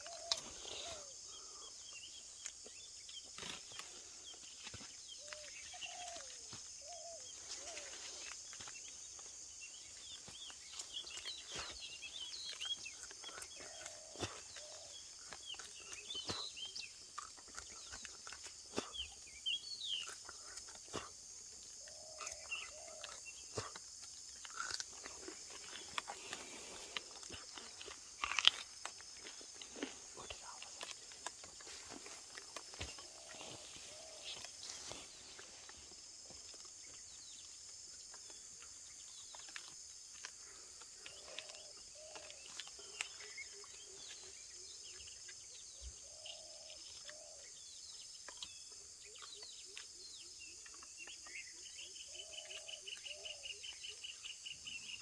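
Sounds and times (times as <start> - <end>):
bird chirps: 0.0 - 28.4, 29.0 - 39.6, 40.4 - 55.0
insect drone: 0.0 - 55.0.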